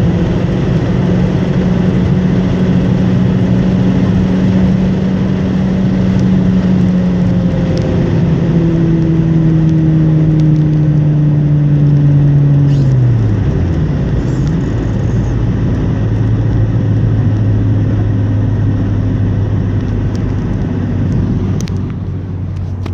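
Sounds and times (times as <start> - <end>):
car engine droning: 0.0 - 22.9
road and wind noise: 0.0 - 22.9.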